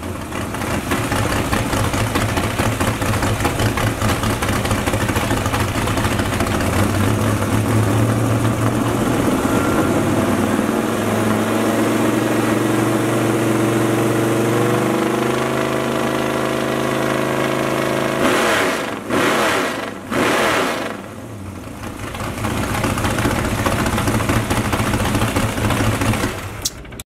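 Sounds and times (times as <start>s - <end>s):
engine idling and revving: 0.0s - 27.0s.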